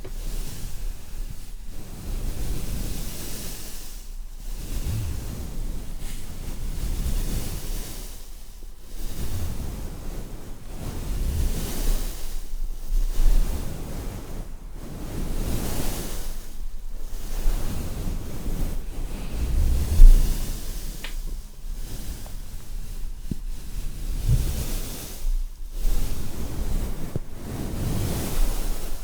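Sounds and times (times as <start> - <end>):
sea waves washing in: 0.0 - 29.0
wind on microphone: 0.0 - 29.0.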